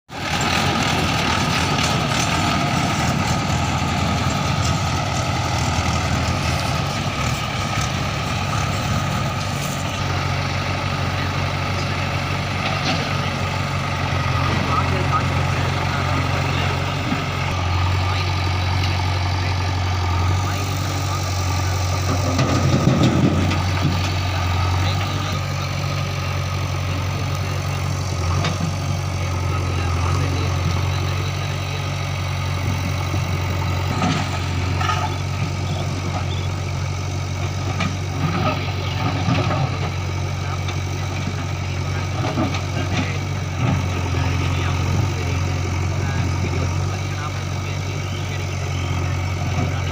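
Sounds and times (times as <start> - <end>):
diesel engine idling hum: 0.1 - 49.9.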